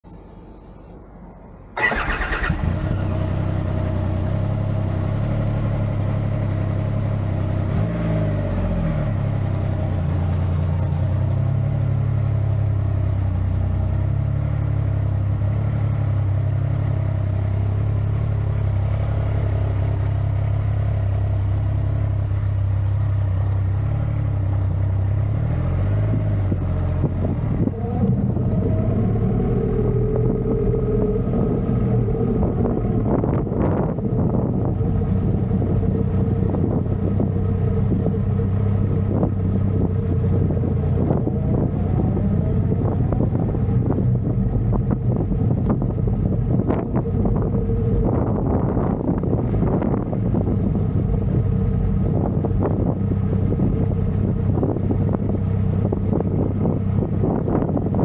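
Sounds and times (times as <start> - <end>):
motorcycle engine starting and idling: 0.8 - 25.3, 26.1 - 58.0.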